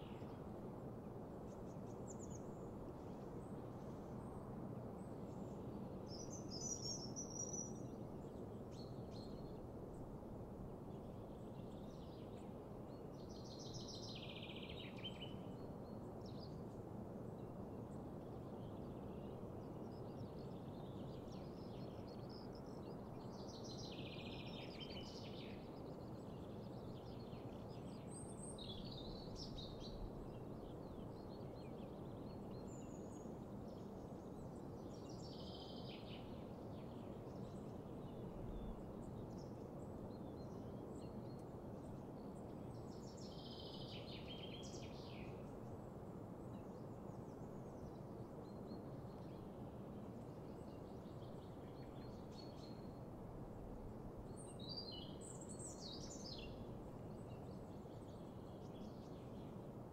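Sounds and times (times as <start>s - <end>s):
low background hiss: 0.0s - 59.9s
songbirds singing: 0.0s - 59.9s.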